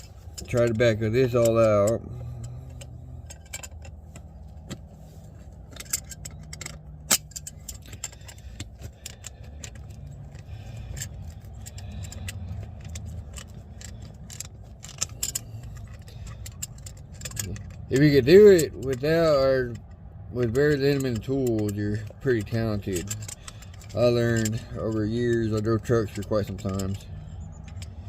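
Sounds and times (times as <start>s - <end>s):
metallic clicks of hand tools: 0.0s - 4.9s, 5.5s - 28.0s
steady low hum: 0.0s - 28.0s.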